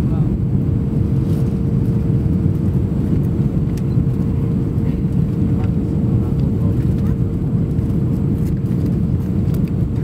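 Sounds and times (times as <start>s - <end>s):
airplane cabin engine rumble: 0.0s - 10.0s
constant cabin hum: 0.0s - 10.0s.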